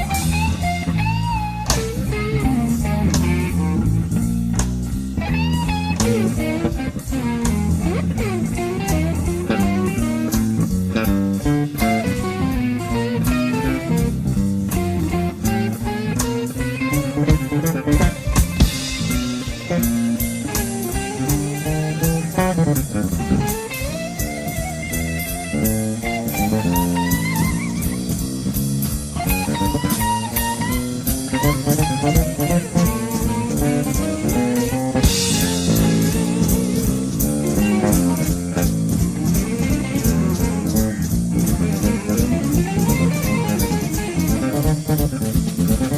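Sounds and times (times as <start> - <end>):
drum kit playing: 0.0 - 45.9
electric bass playing: 0.0 - 45.9.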